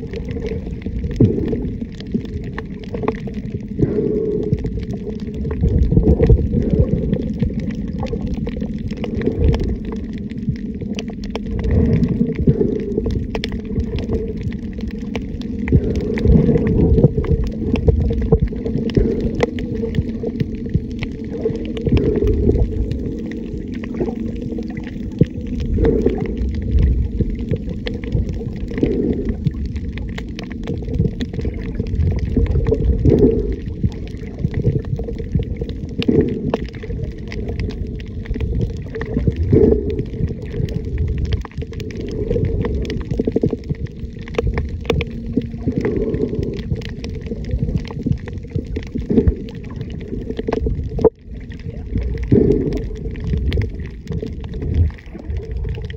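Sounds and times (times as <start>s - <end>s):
faint clicks and crackle: 0.0s - 55.9s
underwater rumble and sloshing: 0.0s - 55.9s.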